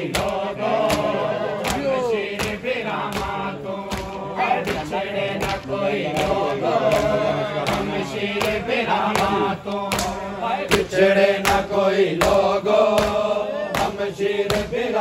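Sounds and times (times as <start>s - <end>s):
hands slapping on chests: 0.0s - 15.0s
men chanting a lament: 0.0s - 15.0s.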